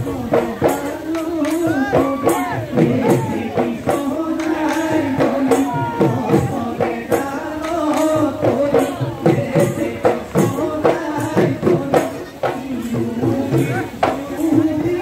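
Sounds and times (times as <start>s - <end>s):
drum beats: 0.0s - 15.0s
jingling hand percussion: 0.0s - 15.0s
person singing: 0.0s - 15.0s.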